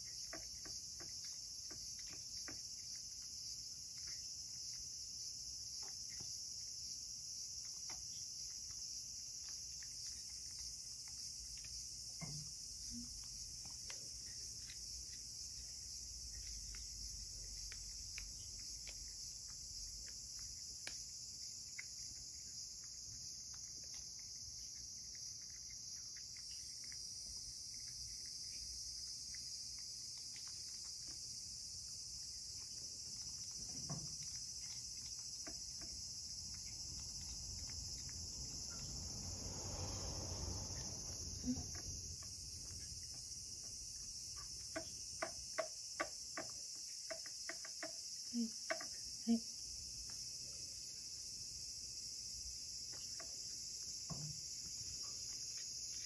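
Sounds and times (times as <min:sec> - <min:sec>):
cat licking and chewing: 0:00.0 - 0:56.0.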